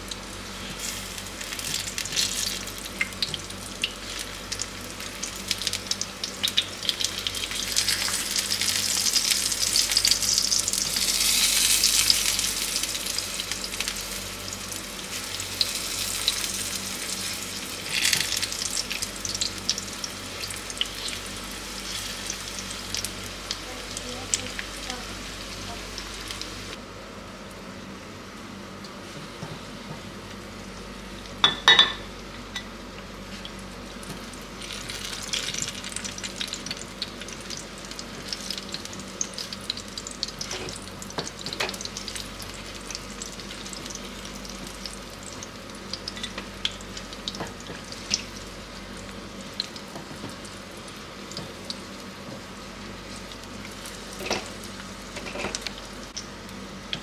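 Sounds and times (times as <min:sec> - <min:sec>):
eggplant sizzling in hot oil: 0:00.0 - 0:26.8, 0:33.1 - 0:57.0.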